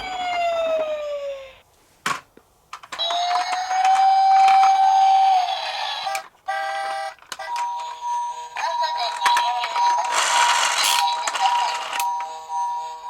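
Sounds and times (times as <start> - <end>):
toy electronic siren wailing: 0.0 - 1.6, 3.0 - 12.1.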